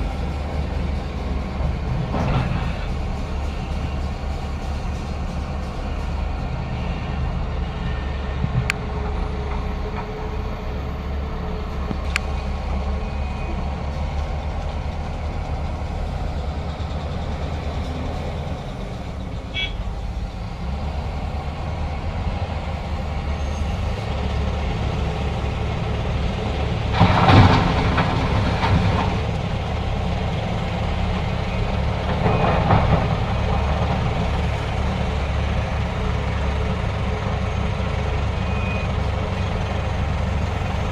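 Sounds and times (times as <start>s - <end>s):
diesel machinery low rumble: 0.0s - 40.9s.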